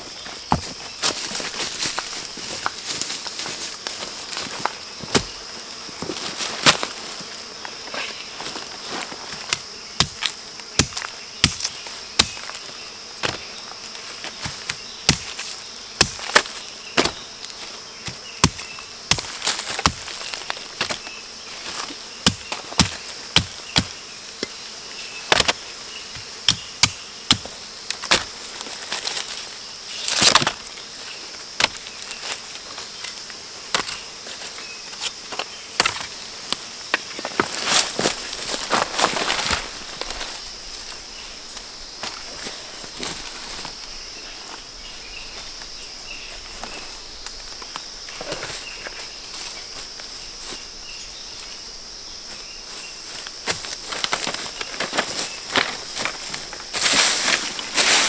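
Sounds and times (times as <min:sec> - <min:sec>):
high-pitched insect buzz: 0:00.0 - 0:58.0.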